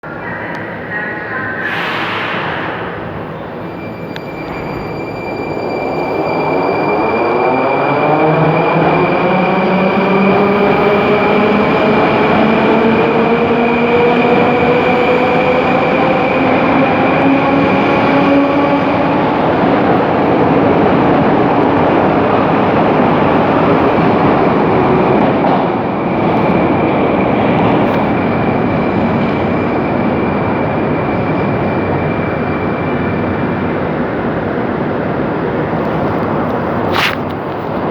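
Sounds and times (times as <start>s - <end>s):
wheels rumbling on rail: 0.0s - 37.9s.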